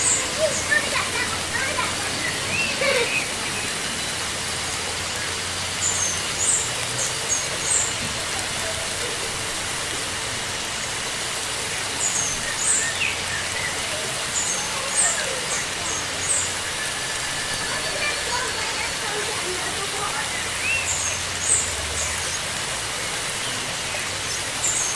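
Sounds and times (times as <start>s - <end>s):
running water rushing: 0.0s - 24.9s.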